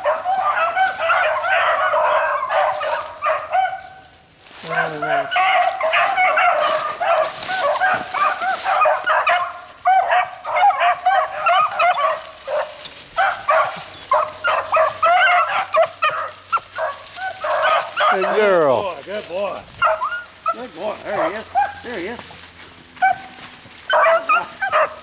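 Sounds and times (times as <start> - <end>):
pack of dogs baying: 0.0 - 25.0.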